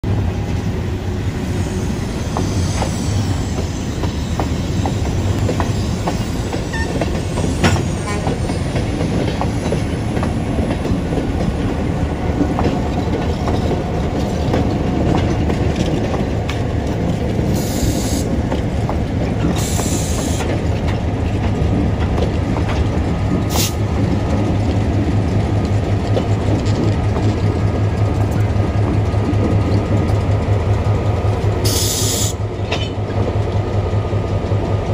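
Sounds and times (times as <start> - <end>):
diesel locomotive engine running: 0.0 - 34.9
train wheels clicking over rail joints: 2.0 - 34.9.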